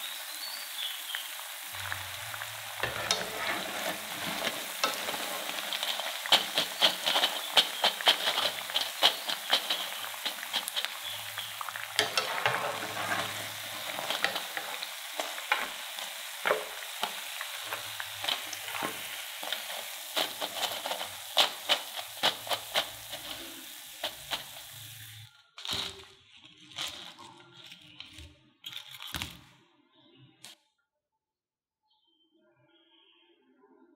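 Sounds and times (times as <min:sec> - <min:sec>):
oil sizzling with crackling pops: 0:00.0 - 0:28.2.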